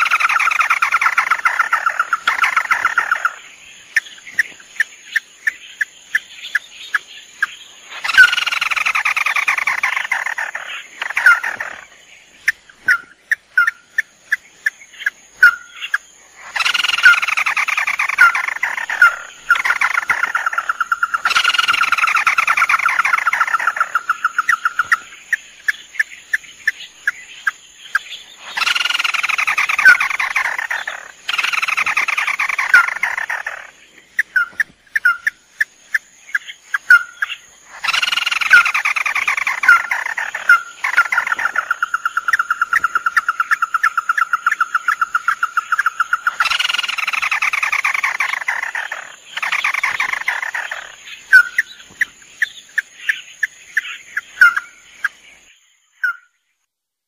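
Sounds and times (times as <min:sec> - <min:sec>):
rapid falling trilled bird calls: 0:00.0 - 0:55.2.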